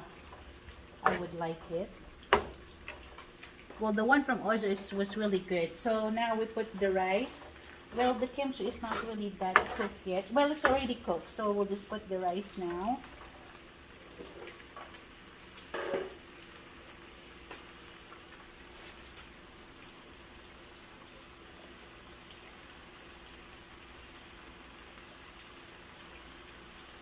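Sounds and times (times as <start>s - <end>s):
vegetables frying in oil: 0.0s - 27.0s.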